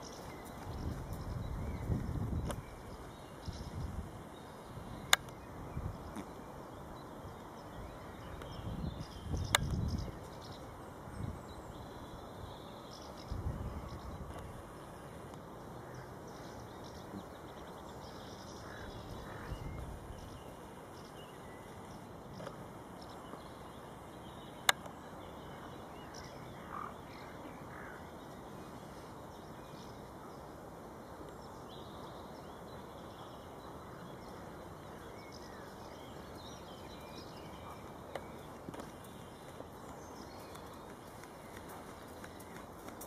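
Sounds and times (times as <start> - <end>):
birds calling: 0.0 - 43.0
steady low background noise: 0.0 - 43.0.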